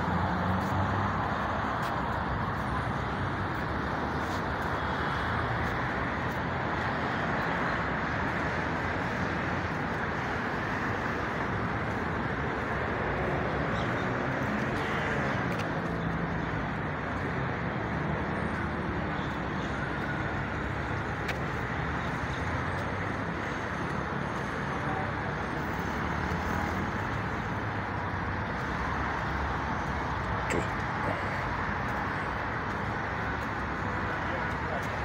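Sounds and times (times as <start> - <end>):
distant road traffic hum: 0.0 - 35.0.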